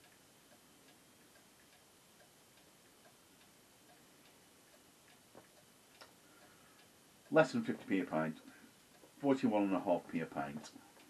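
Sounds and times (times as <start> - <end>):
faint regular ticking: 0.0 - 11.0.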